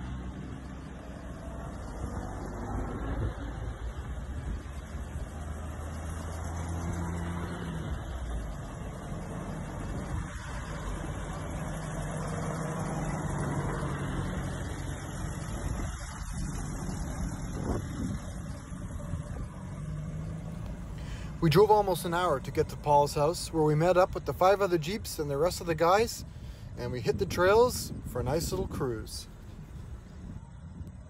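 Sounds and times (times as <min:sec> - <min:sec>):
jeep engine driving: 0:00.0 - 0:31.0.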